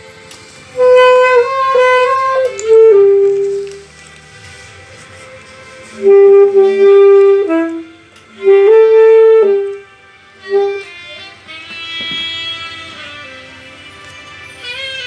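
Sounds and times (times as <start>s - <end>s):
saxophone long notes: 0.0s - 15.0s.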